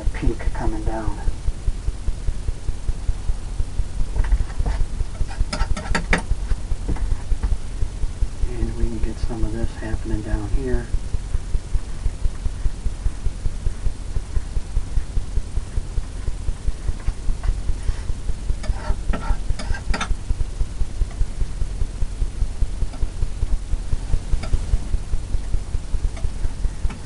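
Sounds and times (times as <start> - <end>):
throbbing low hum: 0.0 - 27.0.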